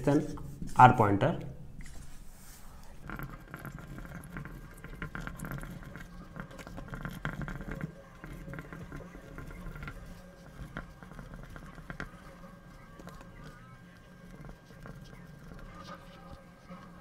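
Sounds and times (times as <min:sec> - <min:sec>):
marker writing on whiteboard: 0:01.8 - 0:17.0.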